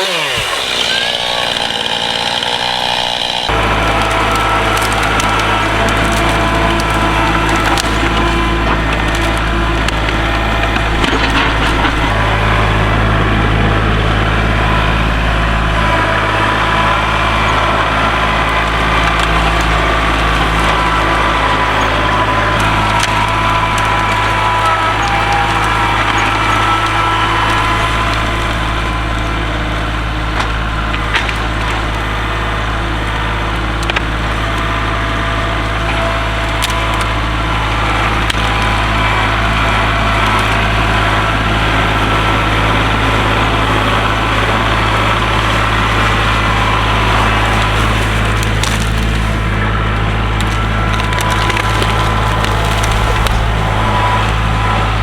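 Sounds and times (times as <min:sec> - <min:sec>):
tractor diesel engine running: 0:00.0 - 0:55.0
wood cracking and snapping: 0:00.0 - 0:55.0.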